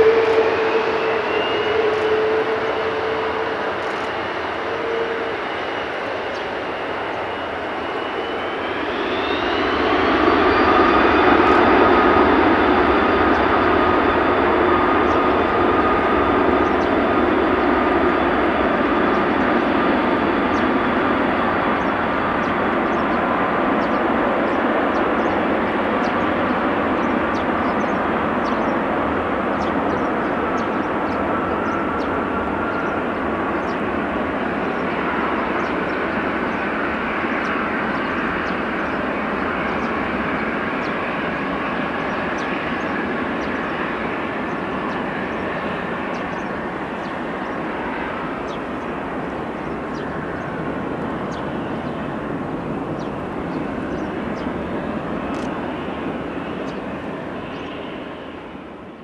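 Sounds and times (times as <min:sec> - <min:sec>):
jet engines spooling up: 0:00.0 - 0:59.0
loud jet engine noise: 0:00.0 - 0:59.0.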